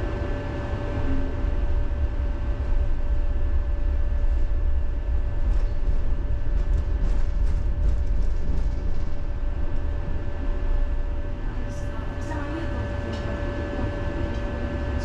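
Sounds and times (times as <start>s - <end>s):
steady tonal hum: 0.0s - 15.0s
tram rumbling on rails: 0.0s - 15.0s.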